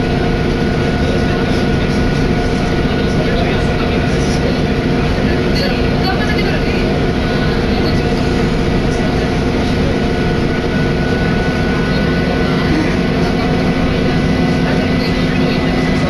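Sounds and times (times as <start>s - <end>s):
diesel engine drone: 0.0s - 16.0s
train rumble: 0.0s - 16.0s.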